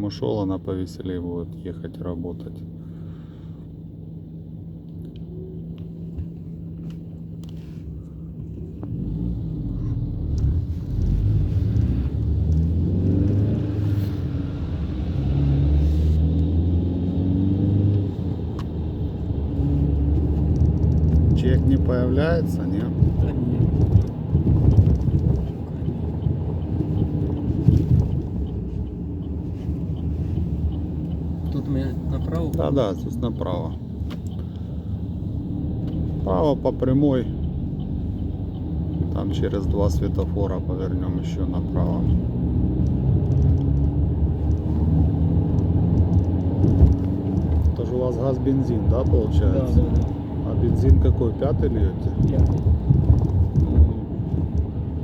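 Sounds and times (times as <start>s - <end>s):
car engine rumble from inside: 0.0s - 55.0s
road noise: 0.0s - 55.0s.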